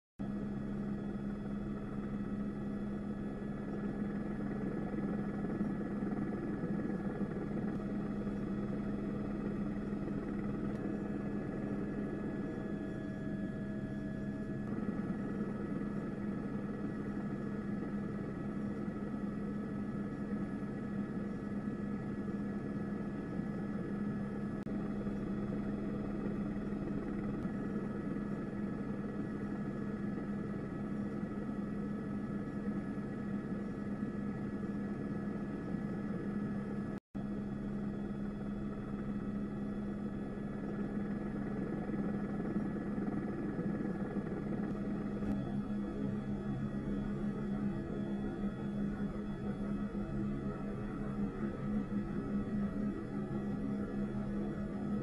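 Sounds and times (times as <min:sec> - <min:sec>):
aircraft engine drone: 0:00.2 - 0:55.0.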